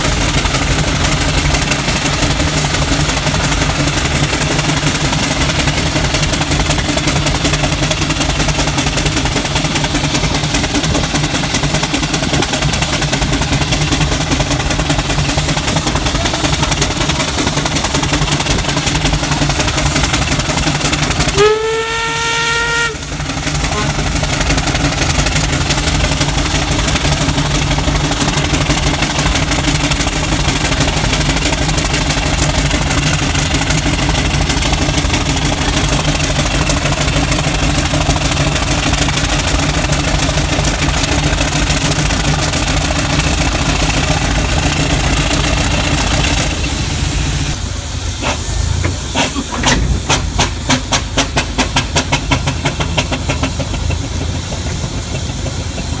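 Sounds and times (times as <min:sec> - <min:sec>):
exhaust chuffing: 0:00.0 - 0:56.0
steam hissing: 0:00.0 - 0:56.0
steam traction engine rumble: 0:00.0 - 0:56.0.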